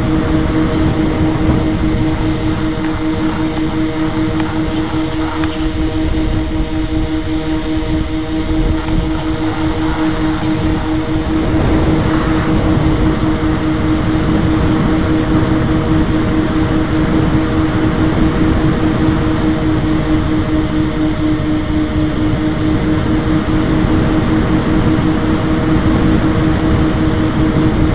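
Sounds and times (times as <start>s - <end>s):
heavy wind rush: 0.0s - 27.9s
model plane motor and propeller: 0.0s - 27.9s.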